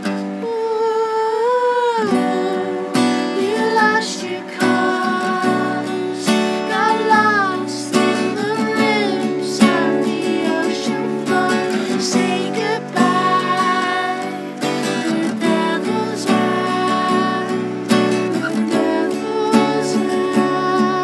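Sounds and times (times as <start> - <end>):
person singing: 0.0 - 21.0
strummed acoustic guitar: 0.0 - 21.0.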